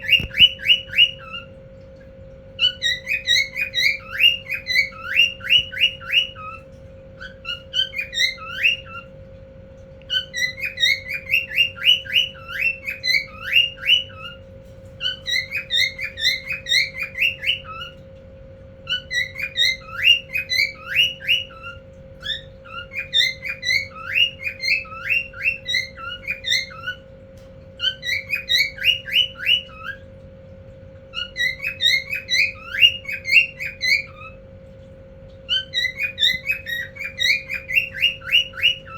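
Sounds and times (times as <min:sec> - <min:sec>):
cockatiel whistling: 0:00.0 - 0:01.6, 0:02.6 - 0:09.2, 0:10.0 - 0:18.0, 0:18.8 - 0:27.1, 0:27.8 - 0:30.1, 0:31.1 - 0:34.4, 0:35.5 - 0:38.9
steady low hum: 0:00.0 - 0:38.9.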